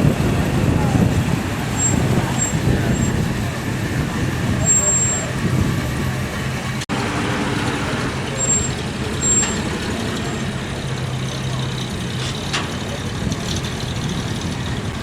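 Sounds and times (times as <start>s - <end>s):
fire engine engine running: 0.0s - 15.0s.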